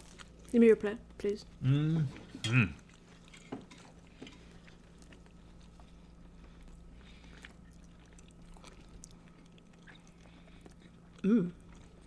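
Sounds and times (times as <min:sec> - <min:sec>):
low steady hum: 0:00.0 - 0:12.0
chewing and biting food: 0:02.2 - 0:12.0.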